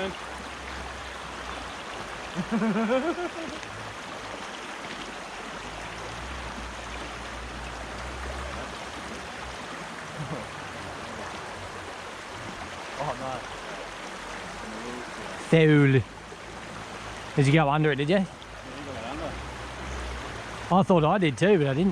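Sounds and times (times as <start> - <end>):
creek flowing over rocks: 0.0 - 21.9.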